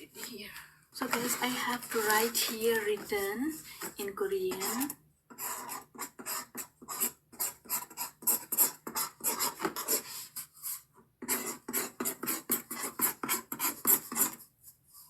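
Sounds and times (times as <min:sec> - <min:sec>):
pen scratching on paper: 0:01.0 - 0:03.2, 0:03.8 - 0:14.5.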